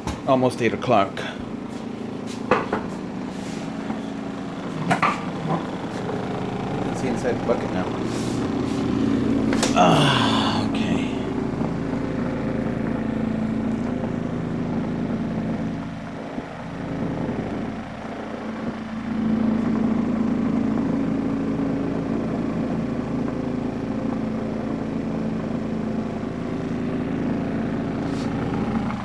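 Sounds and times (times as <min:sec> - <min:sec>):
spin dryer humming: 0:00.0 - 0:29.0.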